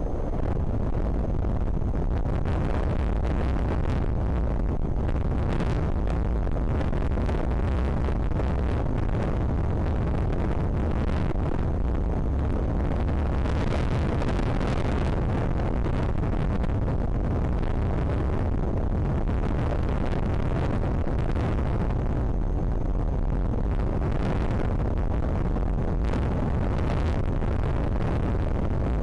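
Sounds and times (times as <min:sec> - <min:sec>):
strong wind on microphone: 0:00.0 - 0:29.0.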